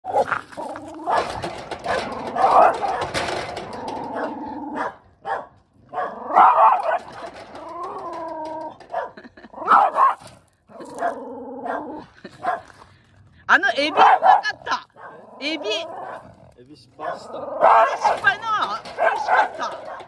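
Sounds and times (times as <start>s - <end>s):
dogs barking: 0.1s - 12.7s, 13.8s - 16.4s, 17.0s - 20.0s
dogs growling: 0.1s - 20.0s.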